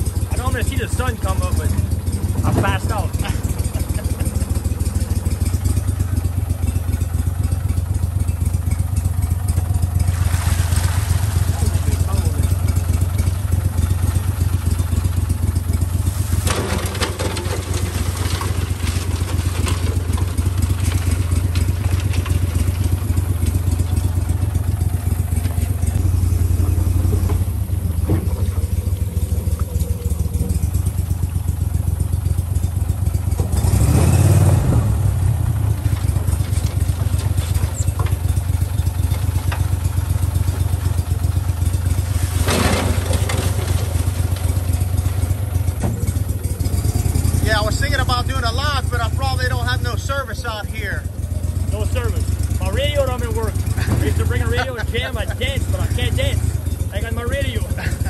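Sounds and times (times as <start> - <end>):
boat motor idling: 0.0 - 34.0, 35.0 - 58.0.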